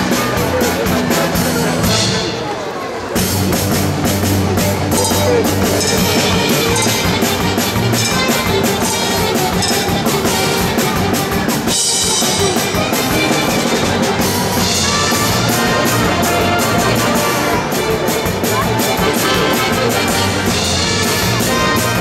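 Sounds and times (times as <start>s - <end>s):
loud music with drum beat: 0.0s - 2.5s, 3.2s - 22.0s.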